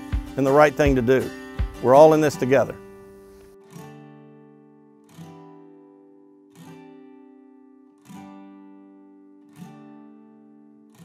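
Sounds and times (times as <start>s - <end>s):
strummed acoustic guitar chords: 0.0s - 11.0s.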